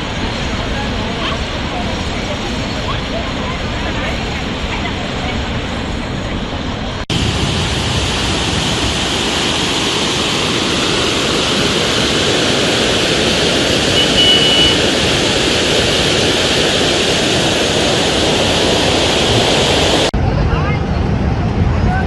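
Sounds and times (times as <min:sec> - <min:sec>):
rushing water roar: 0:00.0 - 0:22.0.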